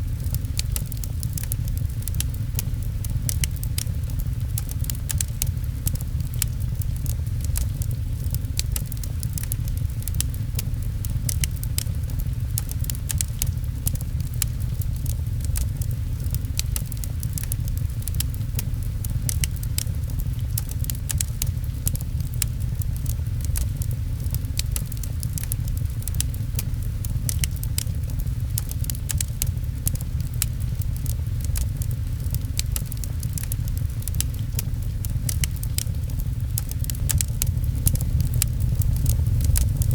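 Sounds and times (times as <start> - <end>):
rain pattering: 0.0 - 39.9
steady deep rumble: 0.0 - 39.9
wood fire crackling: 0.0 - 39.9.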